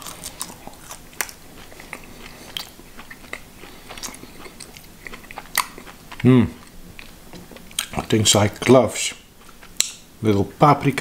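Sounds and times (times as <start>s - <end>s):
person chewing dry sausage: 0.0s - 10.0s.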